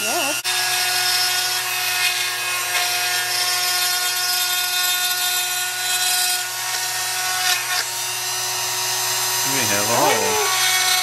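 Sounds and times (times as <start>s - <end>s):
rotary tool motor whine: 0.0s - 11.0s.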